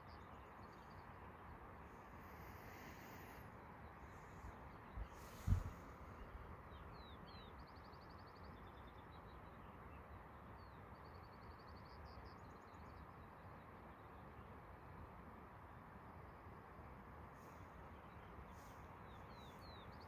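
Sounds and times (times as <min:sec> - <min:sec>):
songbird chirps and trills: 0:00.0 - 0:20.0
steady background hiss: 0:00.0 - 0:20.0.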